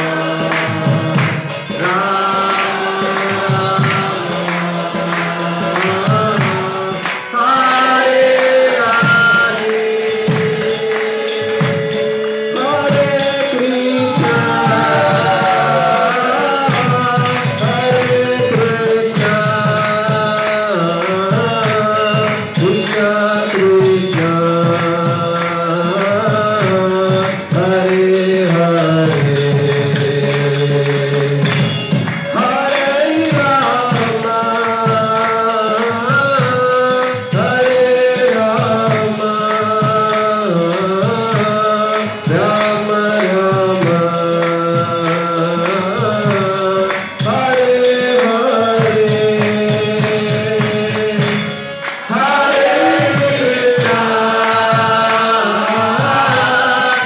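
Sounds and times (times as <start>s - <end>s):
devotional singing voices: 0.0s - 57.0s
jingling metal percussion: 0.0s - 57.0s.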